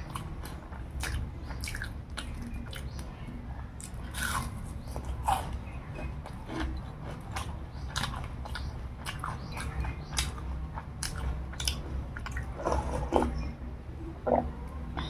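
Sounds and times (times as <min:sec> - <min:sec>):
chewing crunchy food: 0:00.0 - 0:13.5.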